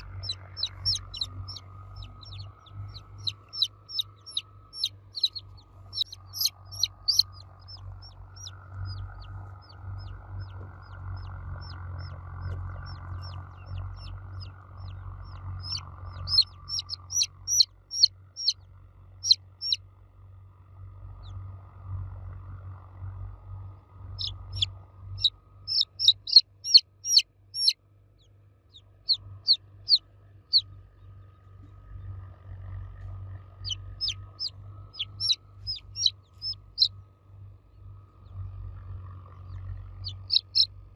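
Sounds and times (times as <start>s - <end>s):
baby chicks cheeping: 0.0s - 19.8s, 21.1s - 21.4s, 24.0s - 32.2s, 32.9s - 37.0s, 38.1s - 40.9s
steady low hum: 0.0s - 40.9s.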